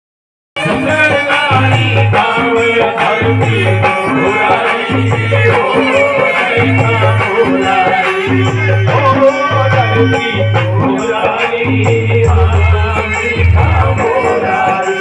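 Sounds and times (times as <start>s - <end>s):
devotional folk music: 0.6s - 15.0s
hand drum beat: 0.9s - 14.8s.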